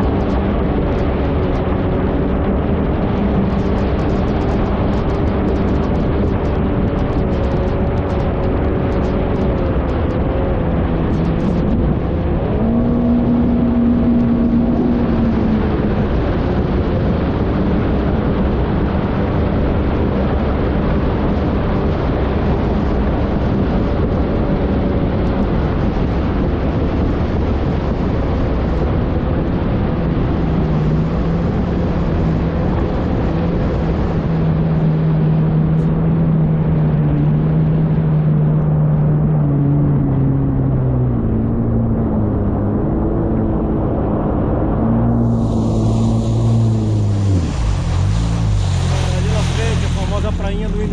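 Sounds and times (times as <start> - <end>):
jet ski engine running: 0.0 - 50.9
wind and water noise: 0.0 - 50.9.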